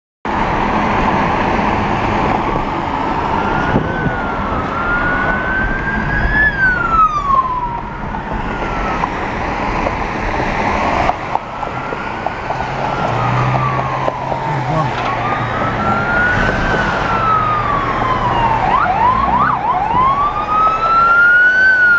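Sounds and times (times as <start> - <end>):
heavy traffic noise: 0.2 - 21.9
ambulance siren wailing: 0.6 - 21.9.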